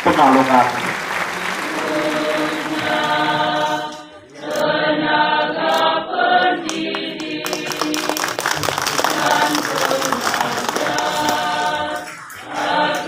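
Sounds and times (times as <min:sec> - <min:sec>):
voices singing in chorus: 0:00.0 - 0:13.0.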